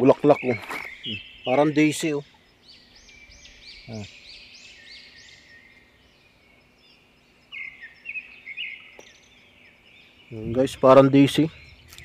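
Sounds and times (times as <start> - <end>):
lower chirping notes: 0.0 - 12.0.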